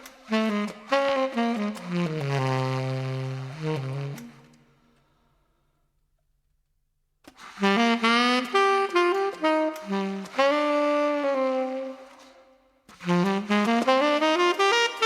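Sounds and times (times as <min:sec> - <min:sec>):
solo saxophone jazz phrase: 0:00.0 - 0:04.8, 0:07.4 - 0:15.0.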